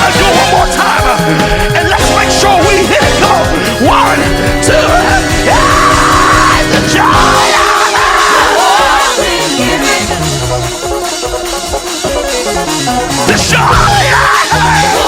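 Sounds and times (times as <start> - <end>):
bass: 0.0 - 15.0
drums: 0.0 - 15.0.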